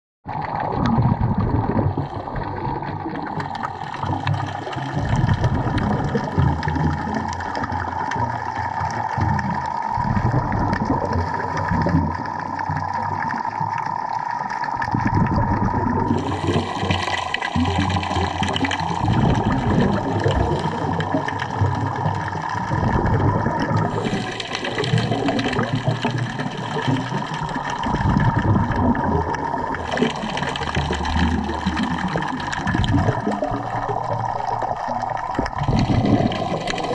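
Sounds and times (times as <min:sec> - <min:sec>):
muffled underwater water wash: 0:00.2 - 0:36.9.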